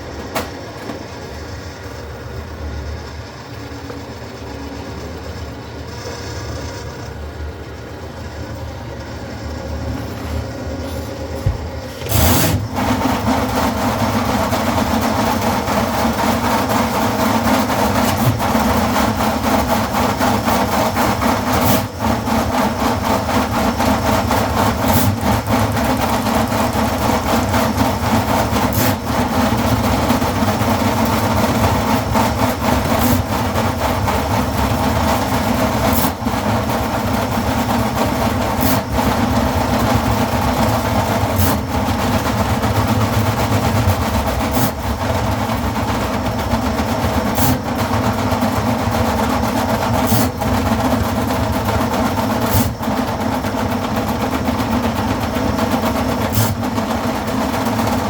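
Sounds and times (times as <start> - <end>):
drain cleaning machine running: 0.0 - 58.0.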